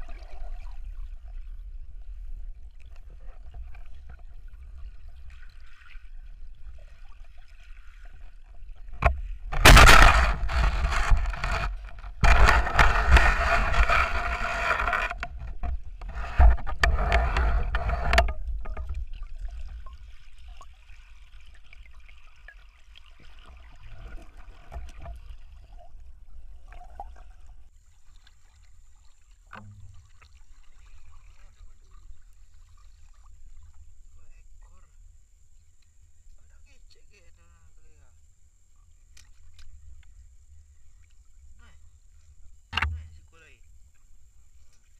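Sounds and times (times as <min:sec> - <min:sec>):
churning and scraping water: 0:00.0 - 0:44.9.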